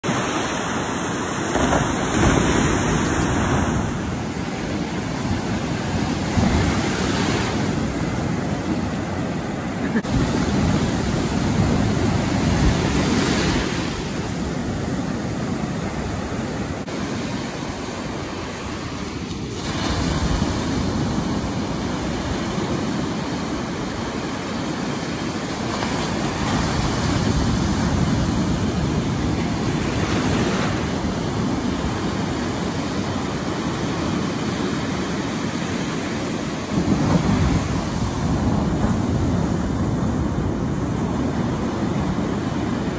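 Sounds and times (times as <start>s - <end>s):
ocean waves breaking on beach: 0.0s - 42.9s.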